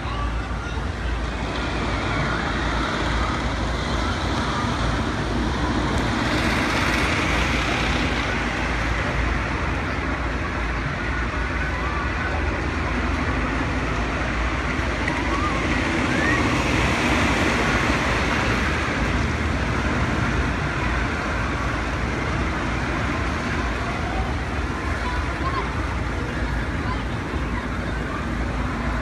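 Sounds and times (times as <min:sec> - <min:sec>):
wooden roller coaster rumbling: 0:00.0 - 0:29.0.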